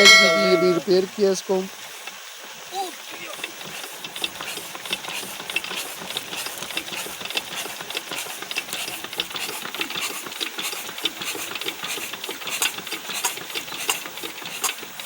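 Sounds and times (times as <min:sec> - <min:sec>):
diesel engine knocking: 0:00.7 - 0:15.0.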